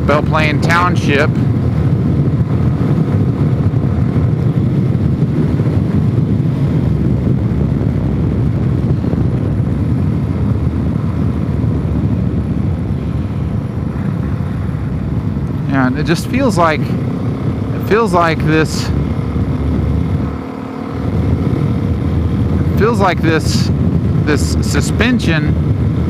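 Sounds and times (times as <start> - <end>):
motorcycle engine running: 0.0 - 26.0
wind noise: 0.0 - 26.0.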